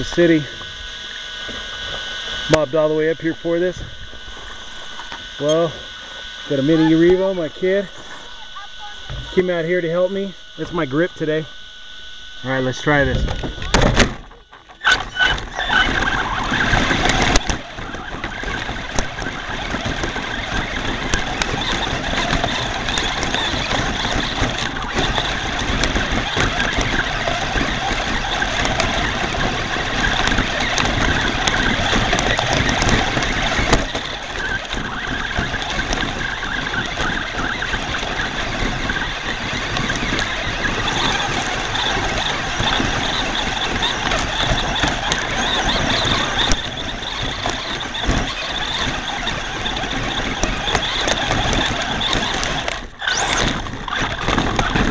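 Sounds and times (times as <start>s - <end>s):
tyres crunching over rocks: 0.0s - 11.3s, 12.4s - 54.9s
drivetrain whining: 0.0s - 54.9s.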